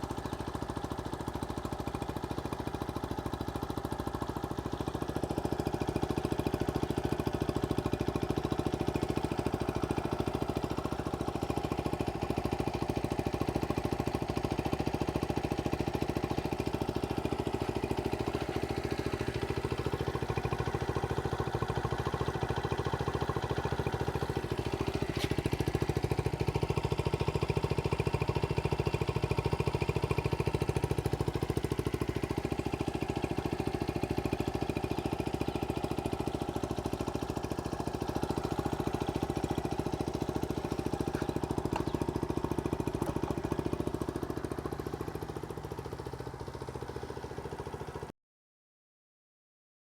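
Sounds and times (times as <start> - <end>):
small motorcycle engine idling: 0.0 - 48.2.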